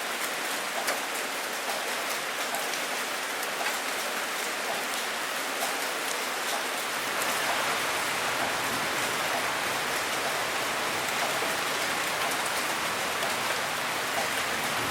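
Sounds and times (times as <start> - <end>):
patter of raindrops: 0.0 - 14.9
steady rain hiss: 0.0 - 14.9.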